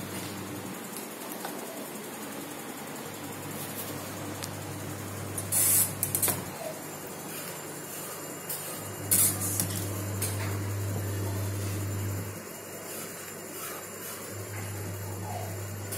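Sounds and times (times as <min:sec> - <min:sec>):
aquarium equipment humming: 0:00.0 - 0:15.9.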